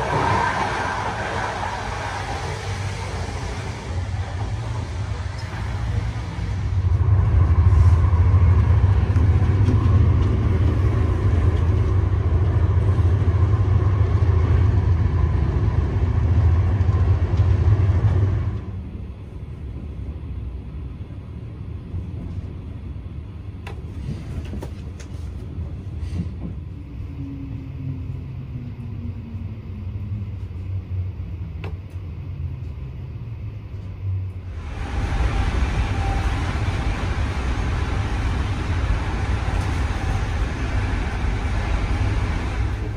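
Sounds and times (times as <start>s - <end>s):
train interior rumble: 0.0s - 42.9s.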